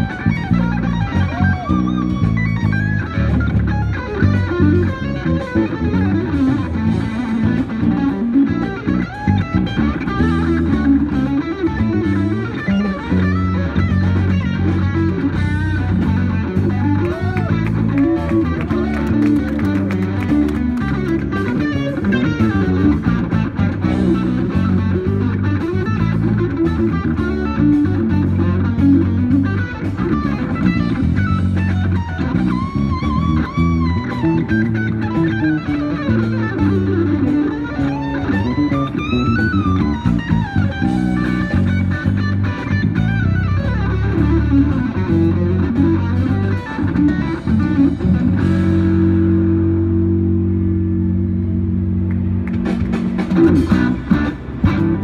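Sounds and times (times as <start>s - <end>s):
electric guitar lead lines: 0.0s - 55.0s.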